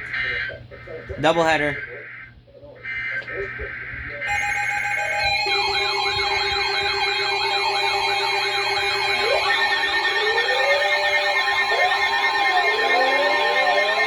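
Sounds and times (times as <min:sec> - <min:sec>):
fast electronic warble: 0:00.0 - 0:14.0
siren wail: 0:00.0 - 0:14.0
steady electronic alert tones: 0:00.0 - 0:14.0.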